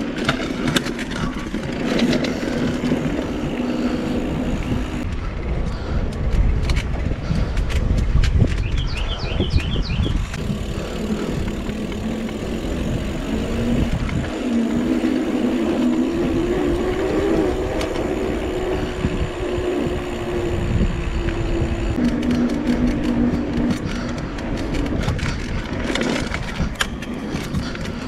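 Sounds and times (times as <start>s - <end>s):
bike tyres humming on pavement: 0.0s - 28.0s
wind rumble on microphone: 0.0s - 28.0s.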